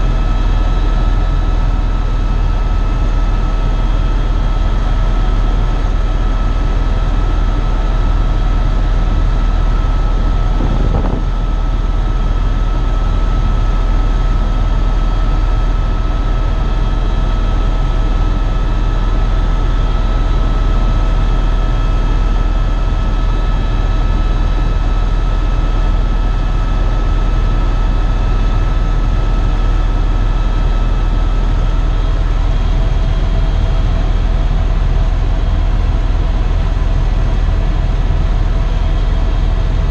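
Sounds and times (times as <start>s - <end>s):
helicopter drone from cabin: 0.0s - 39.9s.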